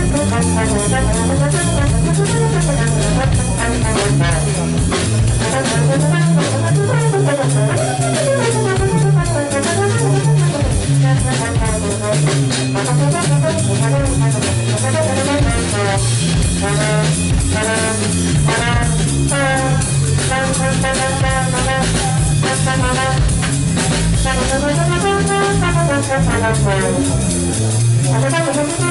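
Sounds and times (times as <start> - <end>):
drum kit: 0.0 - 28.9
trombone playing melodic lines: 0.0 - 28.9.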